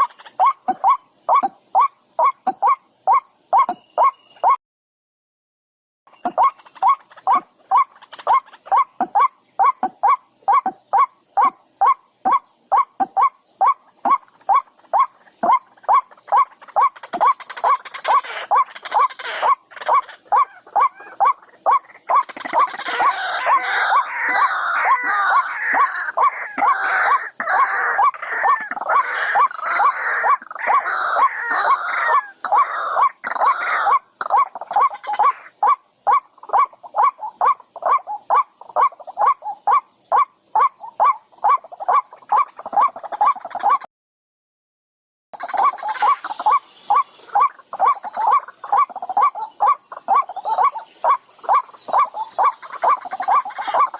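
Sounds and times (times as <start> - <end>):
chatter of many birds: 0.0 - 4.6, 6.1 - 43.9, 45.4 - 53.9.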